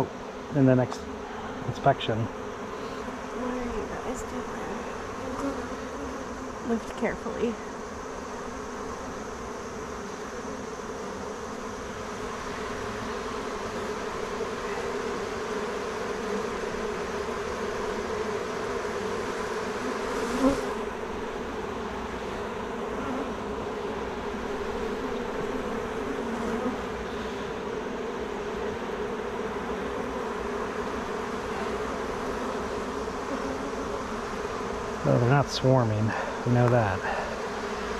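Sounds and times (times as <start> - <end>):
honeybees buzzing: 0.0 - 37.9.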